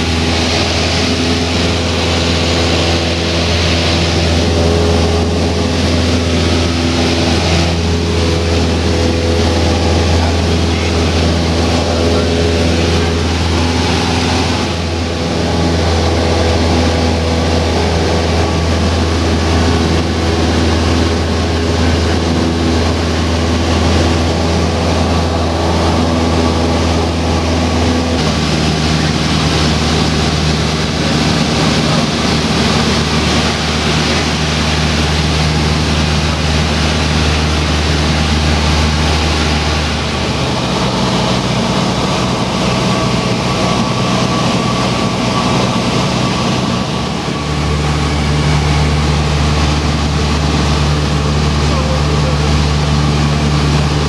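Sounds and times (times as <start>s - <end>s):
small plane engine droning: 0.0s - 54.0s.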